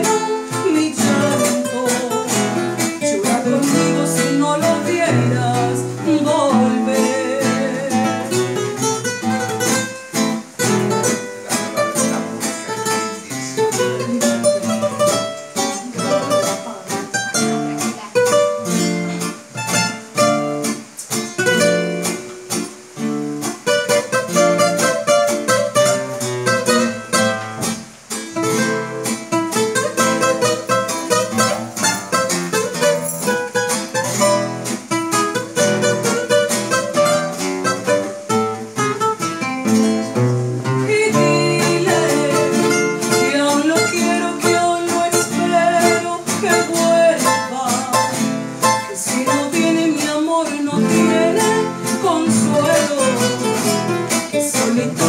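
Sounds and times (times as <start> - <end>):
acoustic guitars playing: 0.0 - 55.0.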